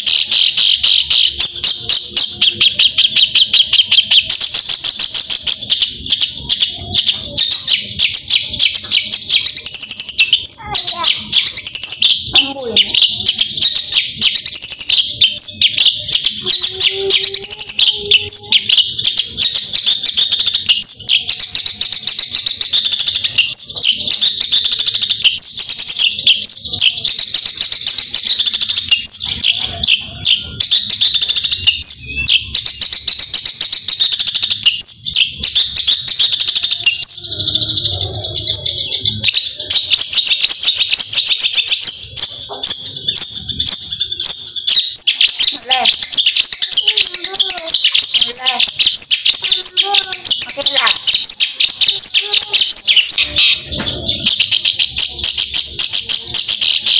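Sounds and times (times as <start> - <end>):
bird singing rapid chattering: 0.0 - 56.9.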